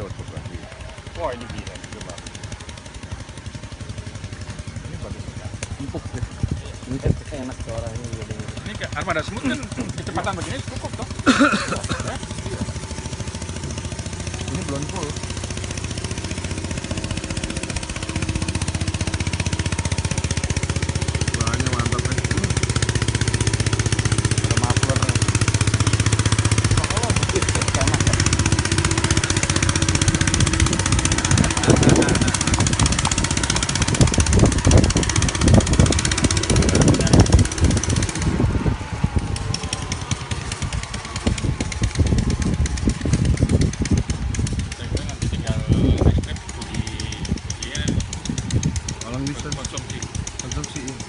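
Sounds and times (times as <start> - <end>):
small boat engine running: 0.0 - 51.0.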